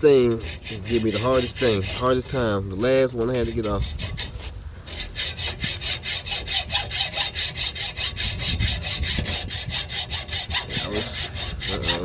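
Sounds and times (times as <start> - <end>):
hacksaw cutting steel: 0.1 - 12.0.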